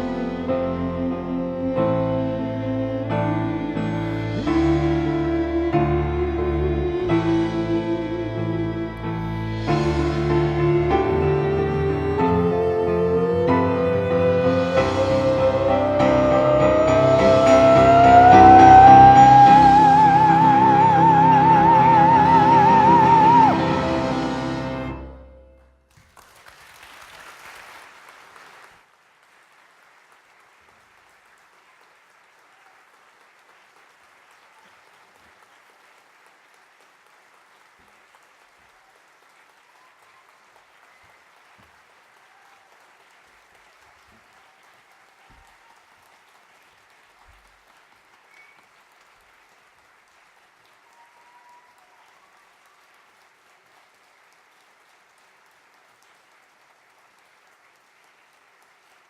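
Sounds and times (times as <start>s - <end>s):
audience applauding: 0.0s - 25.1s, 25.9s - 59.0s.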